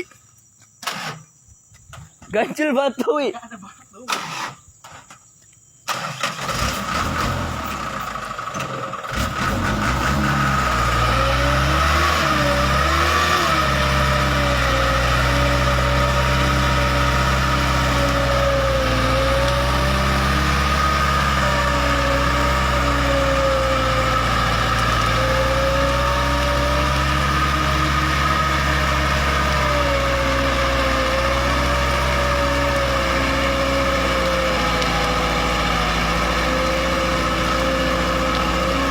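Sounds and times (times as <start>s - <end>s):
truck engine starting and running: 0.8s - 1.3s, 4.1s - 5.2s, 5.8s - 38.9s.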